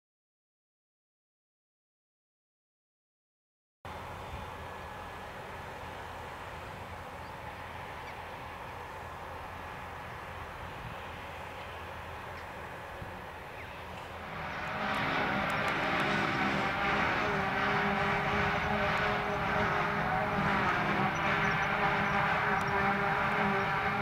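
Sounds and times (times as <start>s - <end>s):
engine and cutter whine: 3.9s - 24.0s
harvester engines droning: 3.9s - 24.0s.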